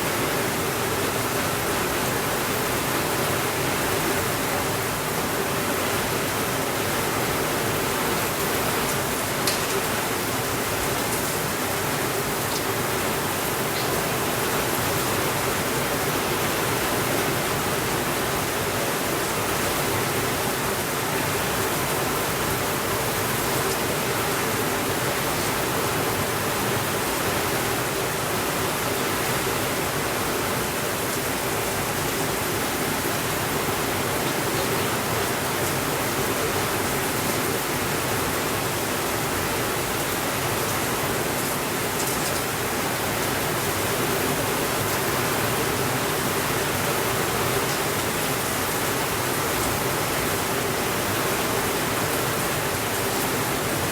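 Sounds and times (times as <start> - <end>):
steady rainfall hiss: 0.0 - 53.9.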